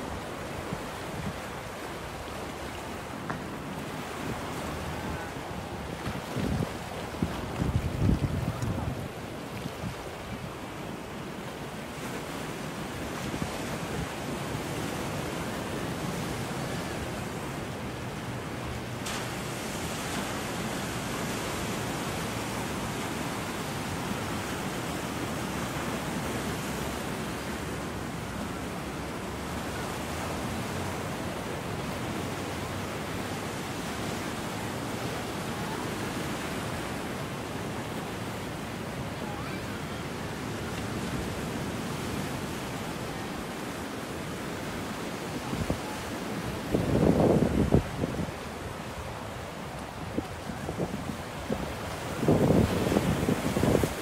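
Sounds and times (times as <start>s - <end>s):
ocean surf breaking on rocks: 0.0s - 54.0s.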